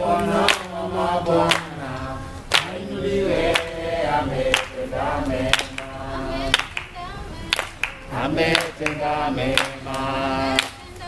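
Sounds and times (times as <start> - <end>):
congregation singing: 0.0 - 11.0
hand claps on the beat: 0.2 - 2.8, 3.4 - 3.8, 4.4 - 11.0.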